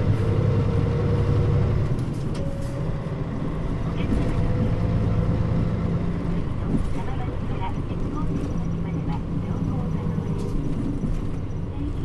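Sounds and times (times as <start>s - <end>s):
bus engine drone with whine: 0.0s - 12.0s.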